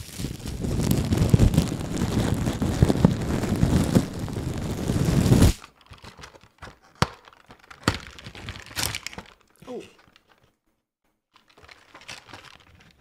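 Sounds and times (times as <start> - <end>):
plastic wrapper crinkling: 0.0 - 10.6, 11.3 - 13.0.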